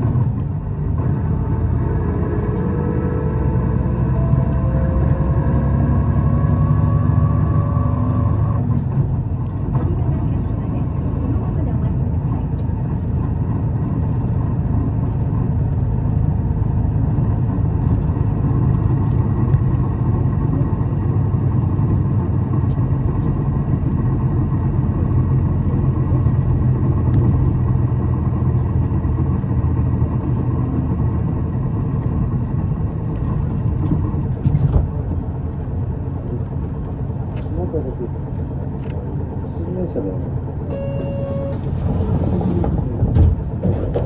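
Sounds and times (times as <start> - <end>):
bus engine and road rumble: 0.0 - 44.0.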